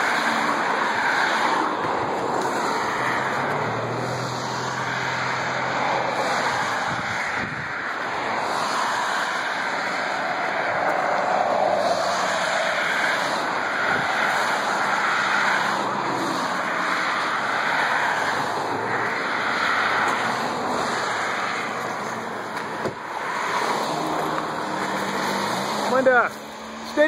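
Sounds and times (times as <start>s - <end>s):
cars passing on highway: 0.0s - 27.0s.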